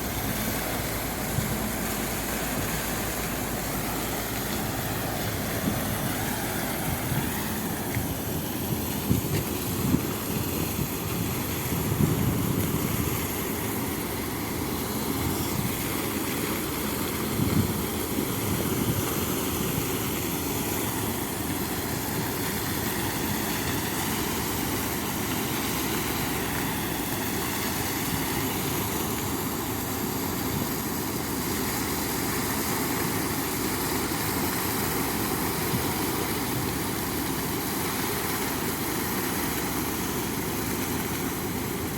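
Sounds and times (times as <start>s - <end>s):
engine-driven pump running: 0.0s - 41.9s.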